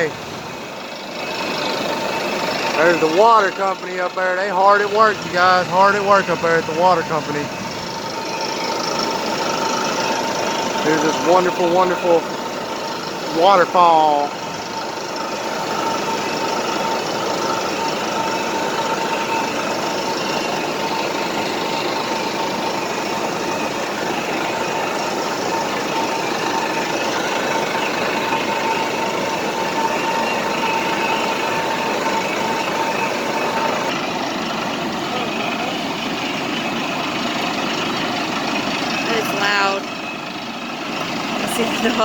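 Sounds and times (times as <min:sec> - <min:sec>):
steady high tone: 0:00.0 - 0:40.3, 0:41.0 - 0:42.0
waterfall roaring: 0:00.0 - 0:42.0.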